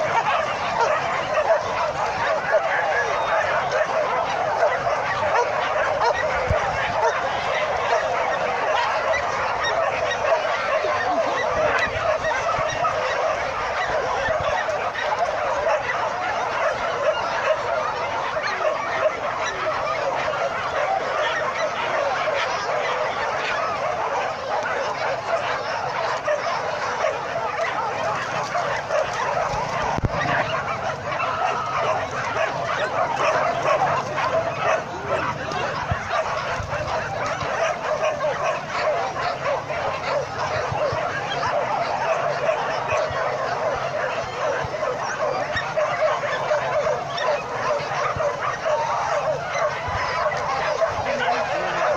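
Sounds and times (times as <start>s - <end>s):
many dogs barking: 0.0s - 51.9s.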